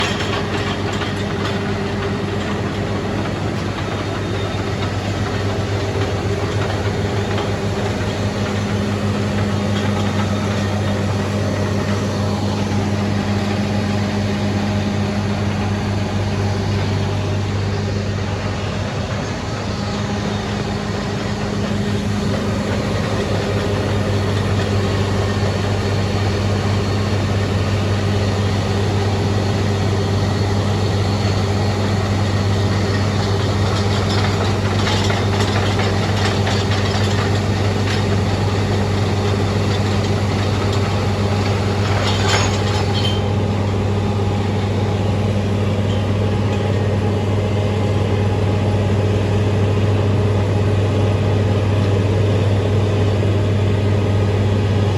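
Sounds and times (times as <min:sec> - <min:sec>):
engine running steadily: 0:00.0 - 0:54.9.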